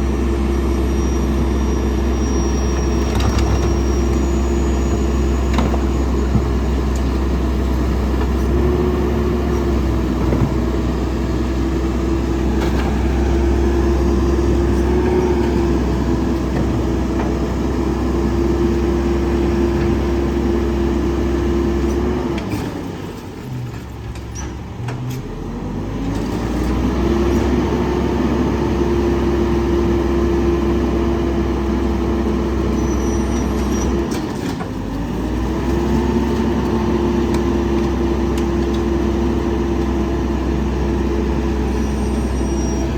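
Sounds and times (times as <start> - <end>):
hydraulic whine: 0.0 - 23.1, 26.4 - 42.9
garbage truck engine rumble: 0.0 - 42.9.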